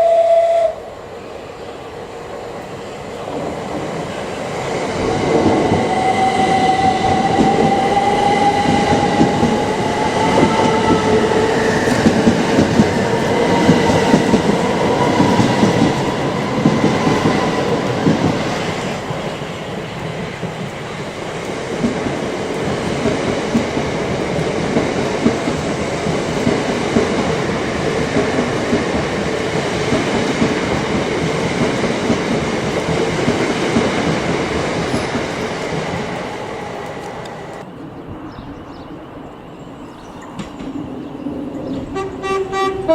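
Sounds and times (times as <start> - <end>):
train rumble: 1.6 - 42.9.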